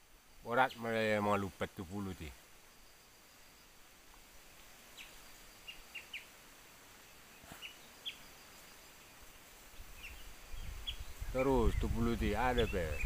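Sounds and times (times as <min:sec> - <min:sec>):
quiet forest background: 0:00.0 - 0:13.0.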